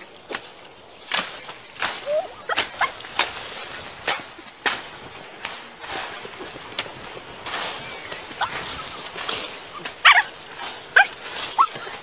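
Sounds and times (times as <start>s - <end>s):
dry leaves and twigs snapping: 0.0s - 12.0s.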